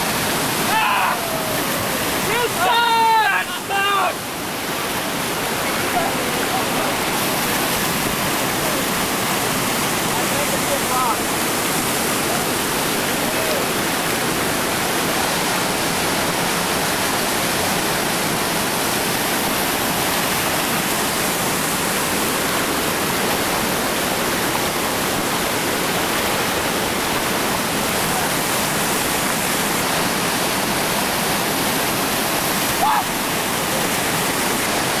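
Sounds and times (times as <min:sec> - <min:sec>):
whitewater rapids rushing: 0:00.0 - 0:35.0.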